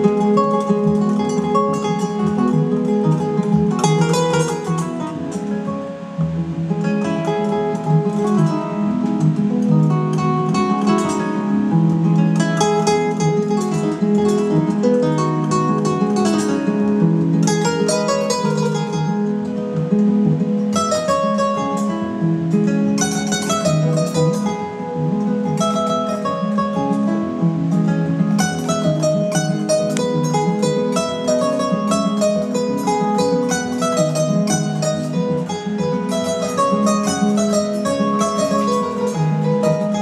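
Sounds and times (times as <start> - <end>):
flamenco acoustic guitar: 0.0 - 40.0.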